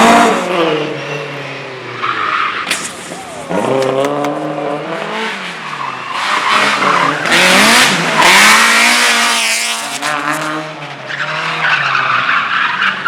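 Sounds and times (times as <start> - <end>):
race car engine revving: 0.0 - 13.0
tyres skidding: 0.0 - 13.0.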